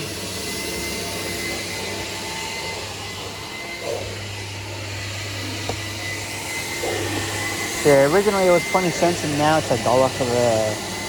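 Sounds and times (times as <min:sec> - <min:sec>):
faint high motor whine: 0:00.0 - 0:11.0
vacuum air rushing through hose: 0:00.0 - 0:11.0.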